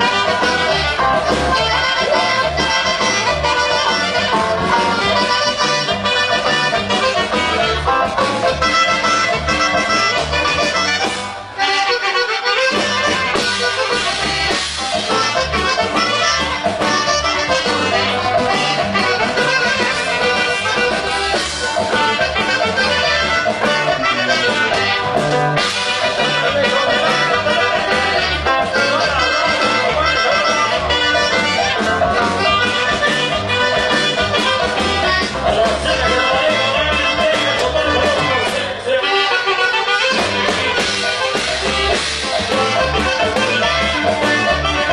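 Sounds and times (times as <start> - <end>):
bouncing bass line: 0.0 - 38.8, 40.0 - 44.9
band playing with accordion: 0.0 - 44.9.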